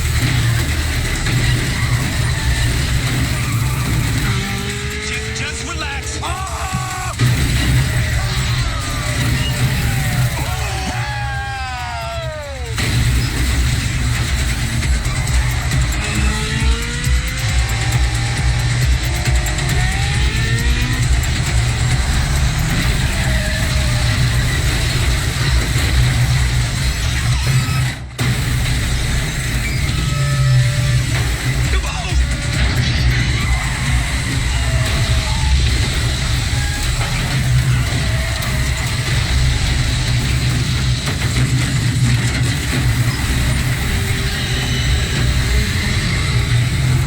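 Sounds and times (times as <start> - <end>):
road noise: 0.0 - 11.8, 12.4 - 27.4, 30.4 - 47.0
car engines running hard: 0.0 - 47.0.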